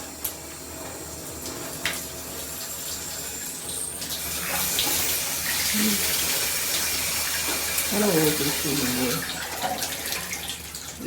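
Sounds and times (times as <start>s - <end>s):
shower water running into bathtub: 0.0s - 11.0s.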